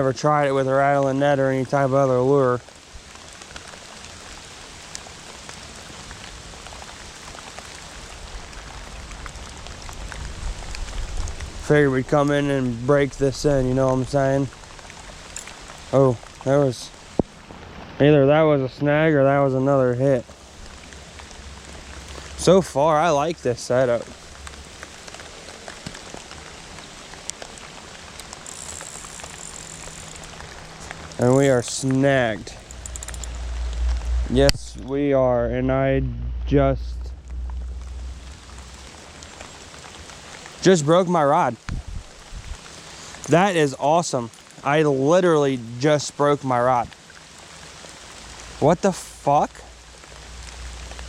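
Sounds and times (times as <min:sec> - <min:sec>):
raindrops ticking: 0:00.0 - 0:17.7, 0:18.9 - 0:51.0
steady rain falling: 0:00.0 - 0:51.0.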